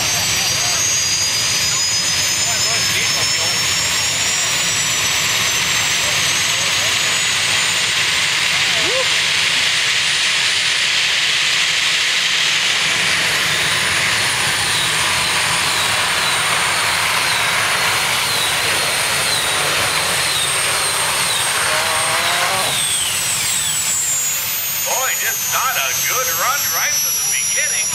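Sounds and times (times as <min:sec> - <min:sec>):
high wavering whine: 0:00.0 - 0:27.9
tractor engine running under load: 0:02.3 - 0:27.9.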